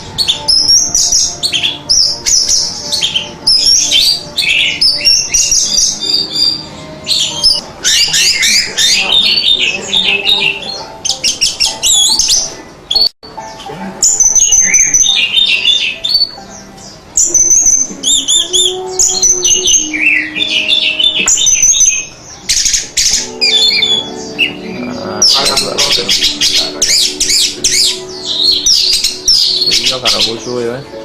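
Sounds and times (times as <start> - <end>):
thrush singing: 0.0 - 13.1, 13.7 - 31.0.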